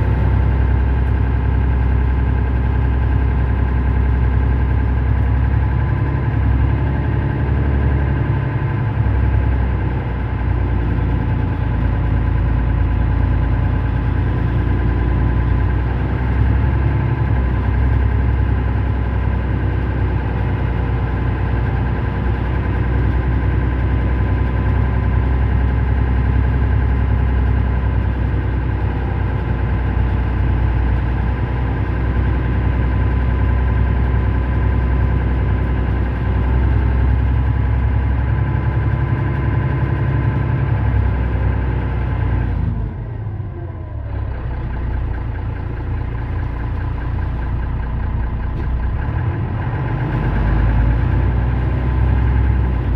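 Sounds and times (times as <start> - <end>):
bus engine idling: 0.0 - 52.9.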